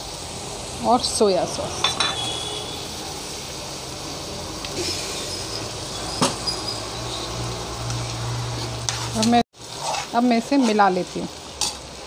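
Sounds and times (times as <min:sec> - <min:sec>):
vegetables sizzling in frying pan: 0:00.0 - 0:12.0.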